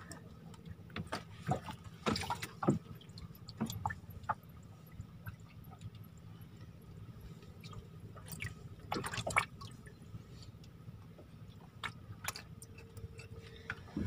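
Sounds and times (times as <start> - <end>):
faint low hum: 0.0 - 14.0
water dripping and lapping: 0.0 - 14.0.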